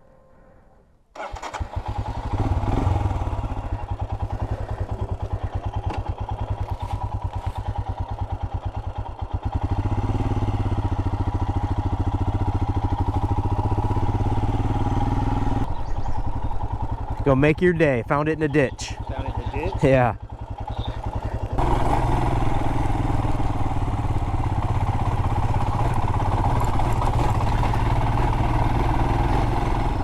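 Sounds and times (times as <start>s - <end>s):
motorcycle engine starting and running: 1.1s - 30.0s.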